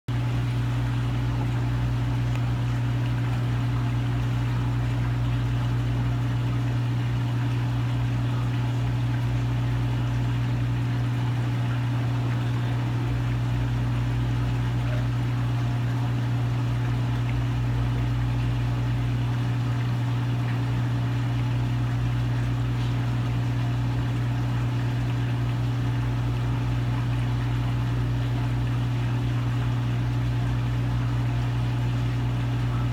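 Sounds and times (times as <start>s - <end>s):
aquarium pump humming: 0.1s - 32.9s.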